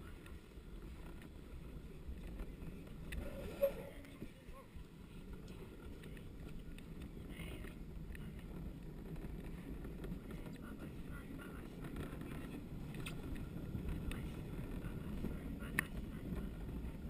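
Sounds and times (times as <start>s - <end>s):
wheels rolling on concrete: 0.0s - 17.0s
wind buffeting microphone: 0.0s - 17.0s.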